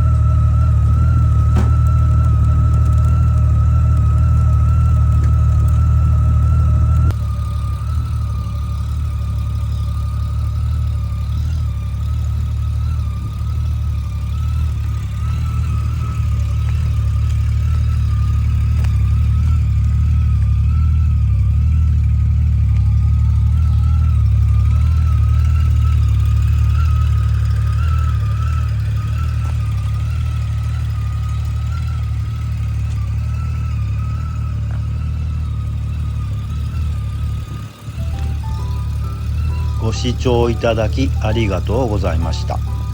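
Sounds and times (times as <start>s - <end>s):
motorcycle engine rumbling: 0.0s - 42.9s
thin wavering whine: 0.0s - 42.9s.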